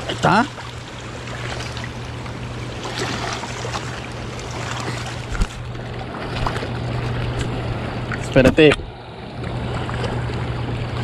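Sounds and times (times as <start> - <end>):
low hum: 0.0 - 11.0
water rushing: 0.0 - 11.0.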